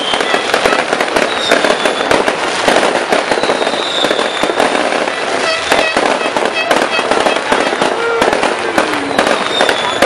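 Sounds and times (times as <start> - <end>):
falling firework whistle: 0.0 - 10.0
fireworks crackling and banging: 0.0 - 10.0.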